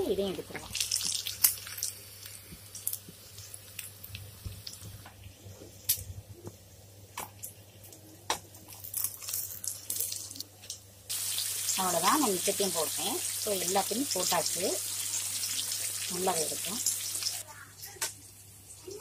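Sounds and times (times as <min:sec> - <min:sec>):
chicken deep-frying in oil: 0:00.0 - 0:06.2, 0:07.1 - 0:19.0
oil crackling and popping: 0:00.4 - 0:05.2, 0:07.1 - 0:18.2.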